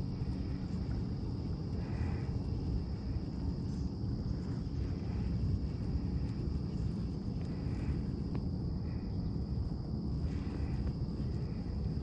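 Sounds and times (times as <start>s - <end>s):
insect chorus: 0.0s - 12.0s
steady low rumble: 0.0s - 12.0s.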